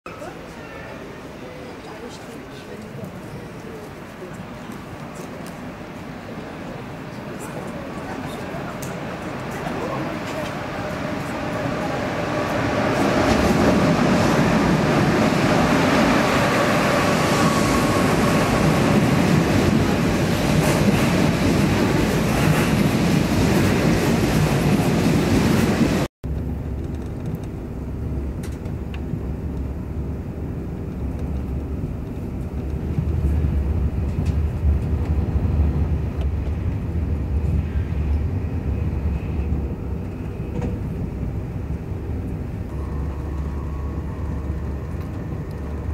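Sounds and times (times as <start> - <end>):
high-speed train rolling past: 0.1 - 45.9
low rumble inside train car: 0.1 - 45.9.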